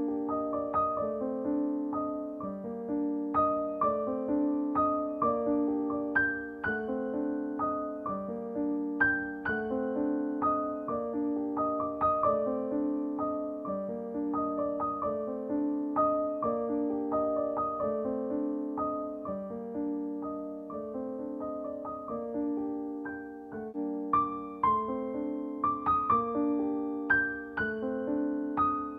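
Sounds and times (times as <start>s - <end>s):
gentle solo piano piece: 0.0s - 28.9s.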